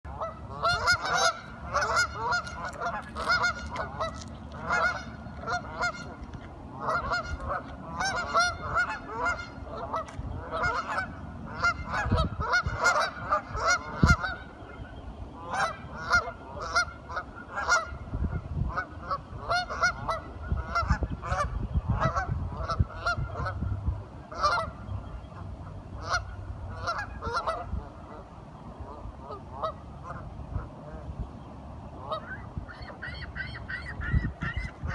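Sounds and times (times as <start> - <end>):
ducks quacking: 0.1 - 23.6, 24.2 - 28.3, 32.0 - 34.9.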